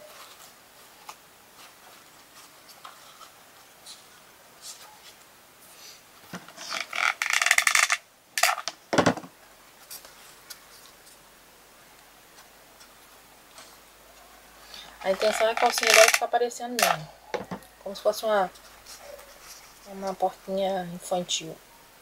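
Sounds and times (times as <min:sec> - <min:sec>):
crinkly rustling: 0:00.0 - 0:08.6, 0:09.7 - 0:11.3, 0:12.3 - 0:21.2.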